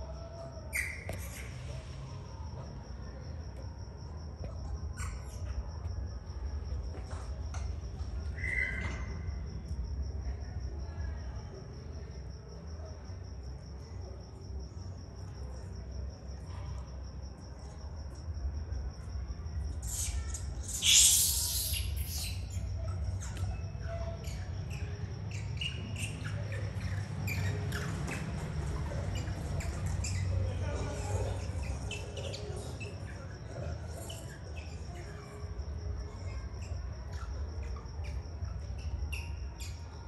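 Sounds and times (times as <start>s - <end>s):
cricket trill: 0.0s - 40.0s.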